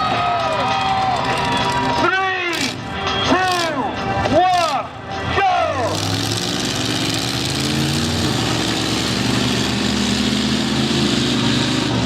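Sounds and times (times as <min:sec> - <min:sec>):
monster truck engines accelerating: 0:00.0 - 0:12.0.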